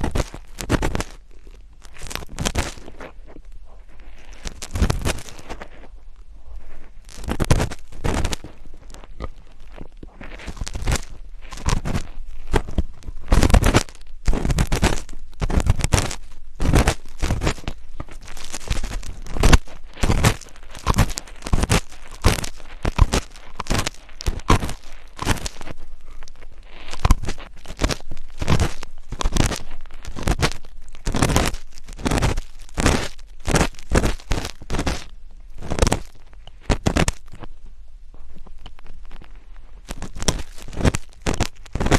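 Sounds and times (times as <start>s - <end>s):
scratching on microphone: 0.0s - 41.9s.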